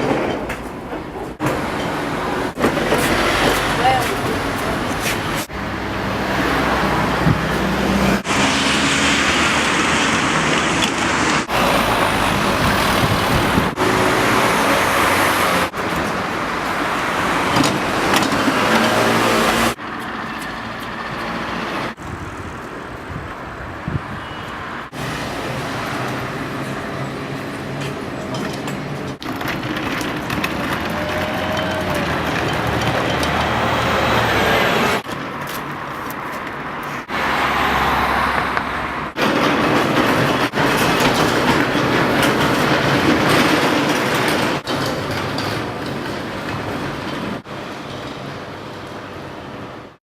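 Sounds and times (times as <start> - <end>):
street traffic rumble: 0.0 - 50.0.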